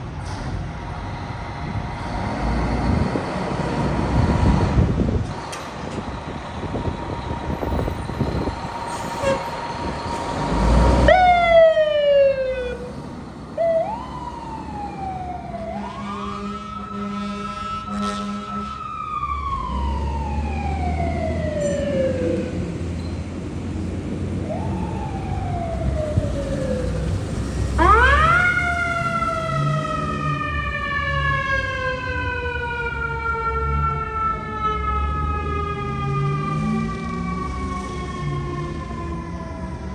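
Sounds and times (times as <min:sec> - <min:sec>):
truck engine rumbling: 0:00.0 - 0:34.5.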